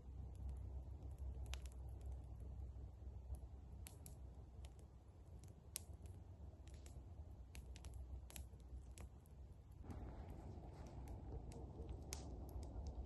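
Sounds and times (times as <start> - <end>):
campfire crackling: 0.0 - 13.0
low background rumble: 0.0 - 13.0.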